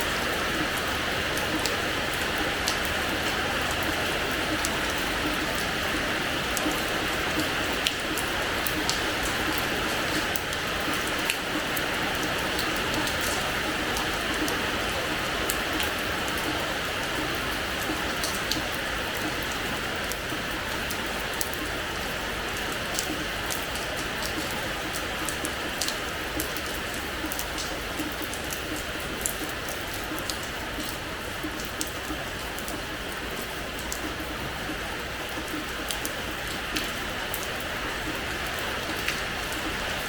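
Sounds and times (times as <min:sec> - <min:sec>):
rain drops splashing: 0:00.0 - 0:40.0
rain hissing on hard floor: 0:00.0 - 0:40.0.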